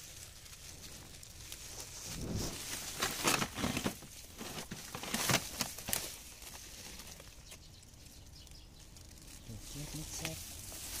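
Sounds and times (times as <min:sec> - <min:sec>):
dry grass and vines rustling: 0:00.0 - 0:11.0.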